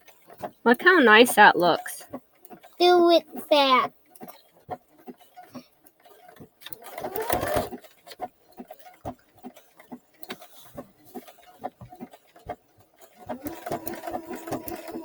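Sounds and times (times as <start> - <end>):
sewing machine needle ticking: 2.4 - 15.0.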